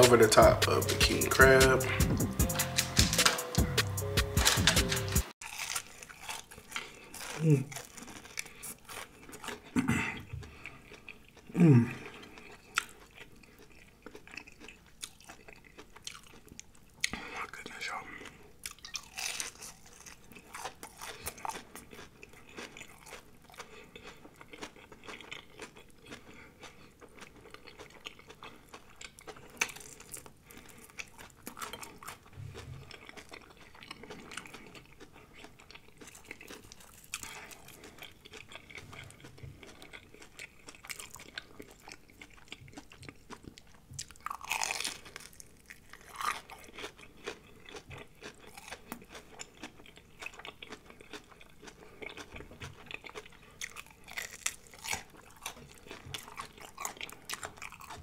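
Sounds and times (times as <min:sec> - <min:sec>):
crunching fried food: 0:04.4 - 0:58.0.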